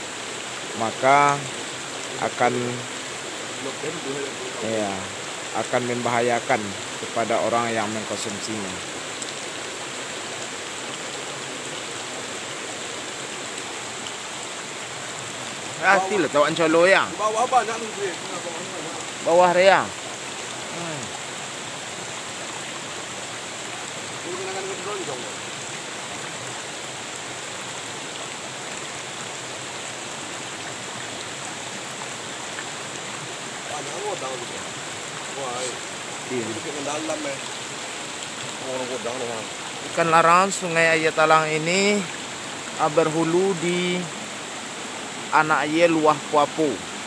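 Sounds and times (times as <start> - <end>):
stream flowing over stones: 0.0 - 47.0.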